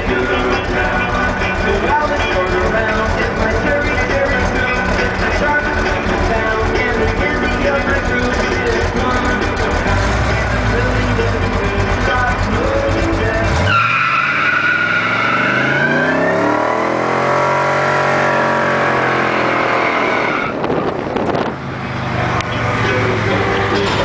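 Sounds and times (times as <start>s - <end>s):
tire squealing: 0.0s - 24.0s
truck engine revving: 0.0s - 24.0s.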